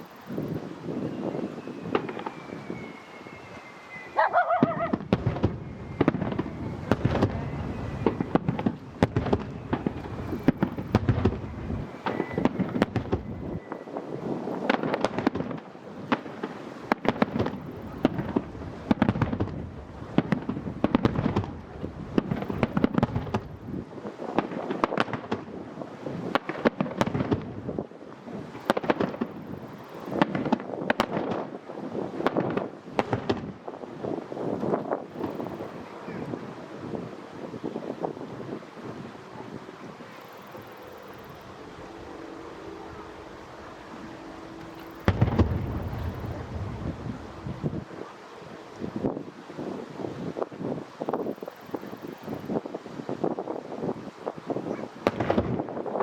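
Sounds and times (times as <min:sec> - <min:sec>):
firework whistle: 0:00.0 - 0:56.0
fireworks booming and crackling: 0:00.0 - 0:56.0.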